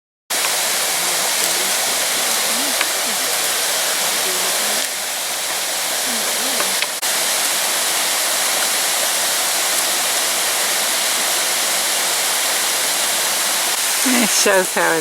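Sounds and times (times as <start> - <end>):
waterfall rushing: 0.3 - 15.0.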